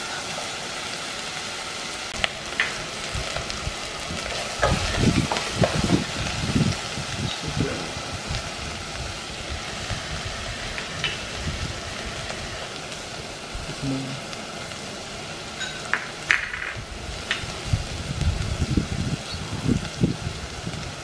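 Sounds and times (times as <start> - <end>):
paste sizzling in oil: 0.0 - 21.0.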